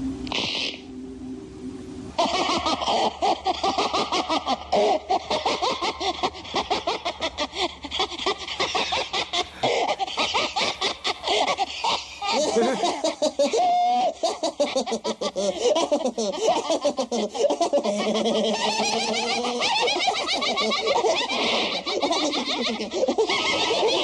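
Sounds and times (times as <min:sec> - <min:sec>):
voices laughing together: 0:02.2 - 0:24.0.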